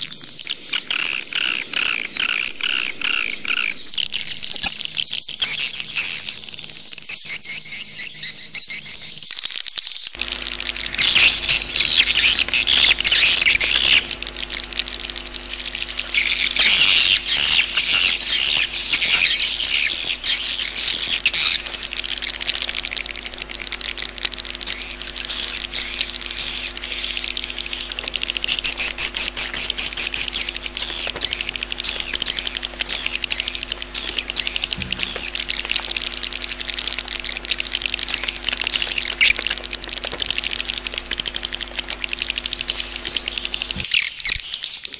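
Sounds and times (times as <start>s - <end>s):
steady low hum: 0.0s - 9.4s, 10.0s - 43.9s
birds chirping and twittering: 0.0s - 44.9s
clicking chirps: 0.0s - 44.9s.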